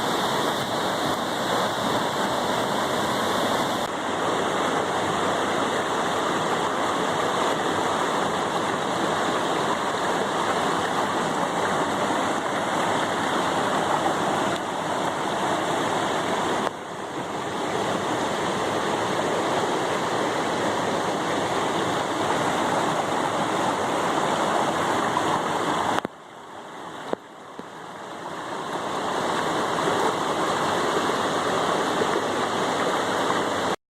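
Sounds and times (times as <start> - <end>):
fast-flowing water rushing: 0.0 - 33.8.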